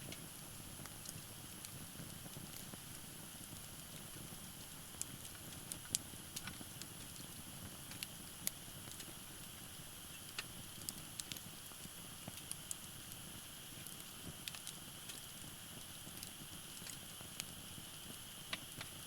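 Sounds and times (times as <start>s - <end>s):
firewood crackling and popping: 0.0s - 19.0s
low fire hiss: 0.0s - 19.0s.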